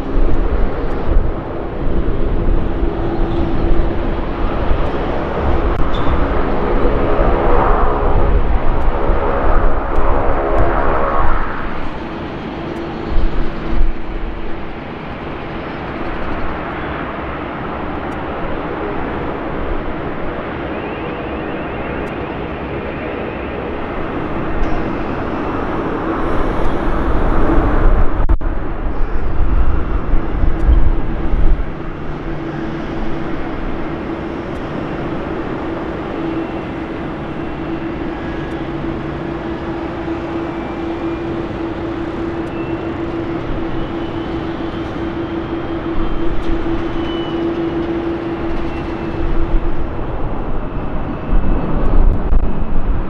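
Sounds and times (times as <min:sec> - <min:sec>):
jet engines rumbling drone: 0:00.0 - 0:53.0.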